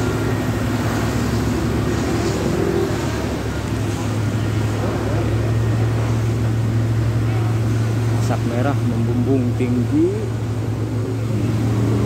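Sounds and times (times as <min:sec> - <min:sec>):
street traffic: 0:00.0 - 0:12.0
vehicle engine humming: 0:00.0 - 0:12.0.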